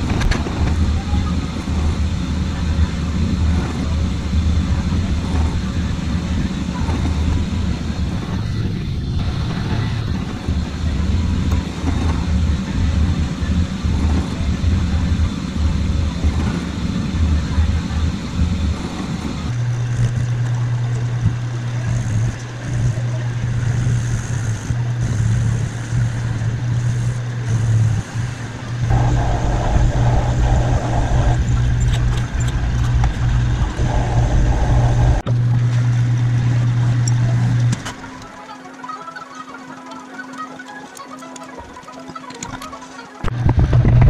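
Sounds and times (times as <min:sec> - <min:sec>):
metal lathe humming: 0:00.0 - 0:43.3.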